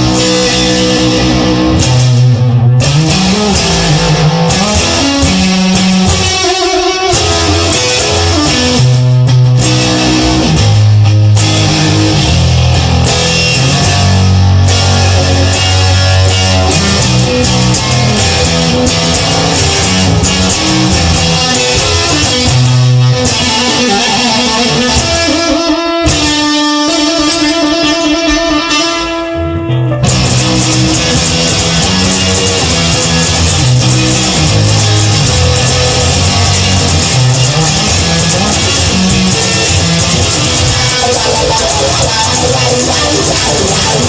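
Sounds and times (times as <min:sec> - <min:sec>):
bass guitar: 0:00.0 - 0:44.0
electric guitar: 0:00.0 - 0:44.0.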